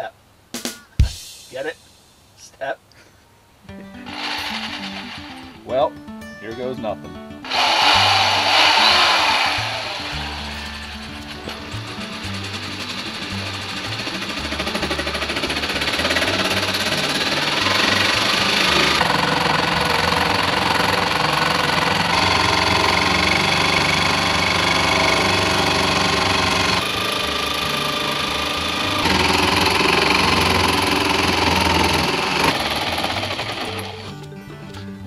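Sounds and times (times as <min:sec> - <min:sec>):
electric jigsaw cutting wood: 0:04.0 - 0:05.6, 0:07.4 - 0:34.1.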